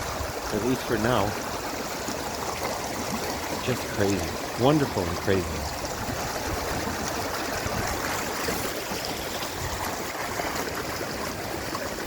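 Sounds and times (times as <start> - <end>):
rainwater rushing down a channel: 0.0 - 12.0.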